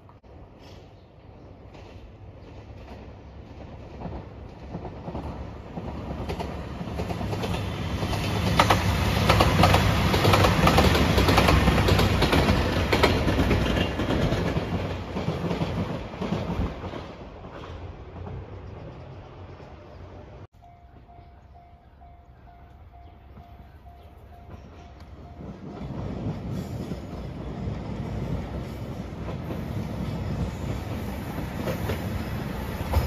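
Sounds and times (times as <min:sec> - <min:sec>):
diesel train passing at speed: 0:00.0 - 0:33.0.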